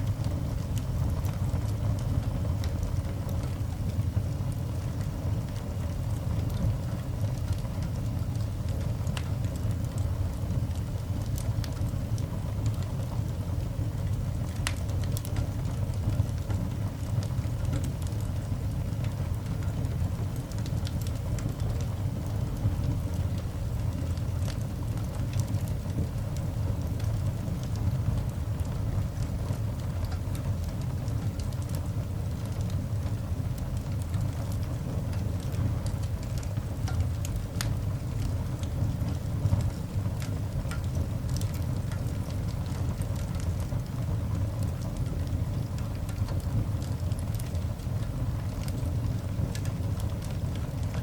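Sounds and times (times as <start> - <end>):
coal fire crackles and pops: 0.0 - 51.0
low fire rumble: 0.0 - 51.0.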